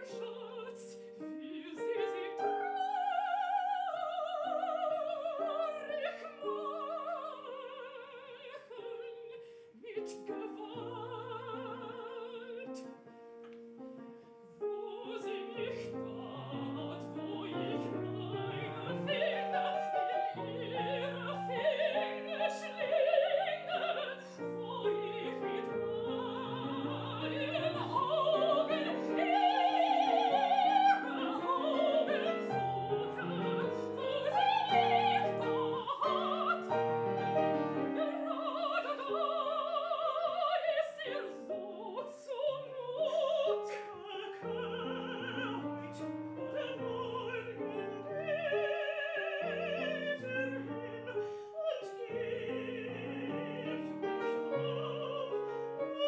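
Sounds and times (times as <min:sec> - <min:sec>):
women singing opera: 0:00.0 - 0:13.1, 0:14.6 - 0:56.0
piano accompaniment: 0:00.0 - 0:56.0.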